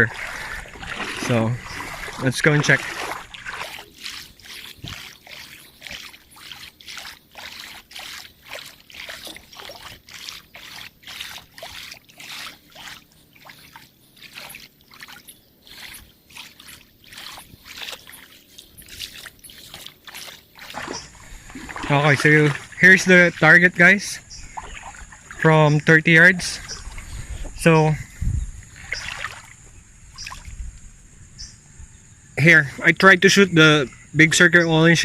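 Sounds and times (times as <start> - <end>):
footsteps wading through water: 0.0 - 30.9.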